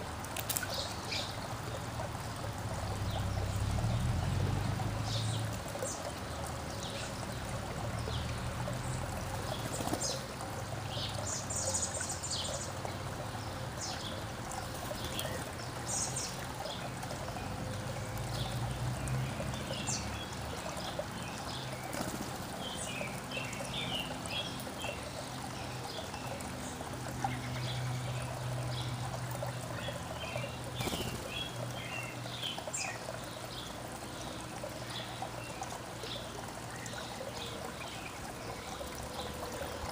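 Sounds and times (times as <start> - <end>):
running water trickling: 0.0 - 39.9
songbirds chirping: 0.0 - 39.9.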